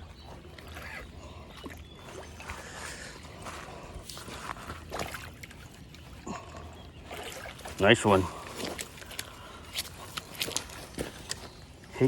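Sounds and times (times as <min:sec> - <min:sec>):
river water sloshing and trickling: 0:00.0 - 0:12.0
wet handling sounds: 0:00.2 - 0:11.6.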